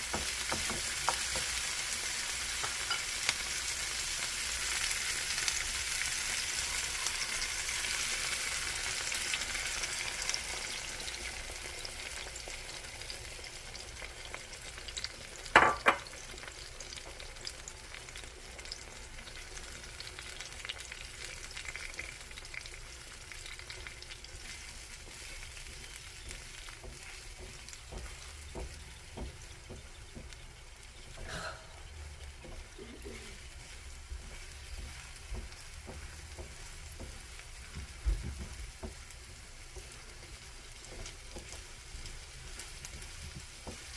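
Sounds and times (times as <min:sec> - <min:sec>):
food sizzling in oil: 0:00.0 - 0:43.9.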